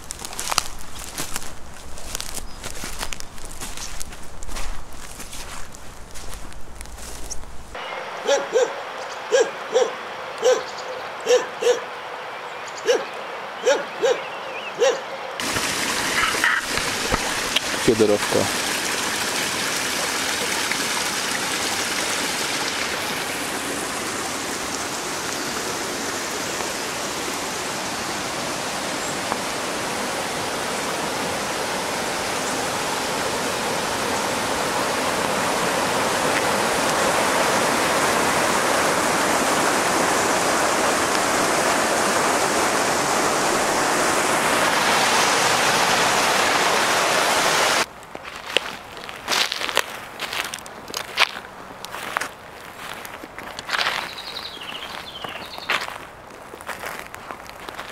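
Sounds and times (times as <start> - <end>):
stream rushing: 0.0 - 57.9.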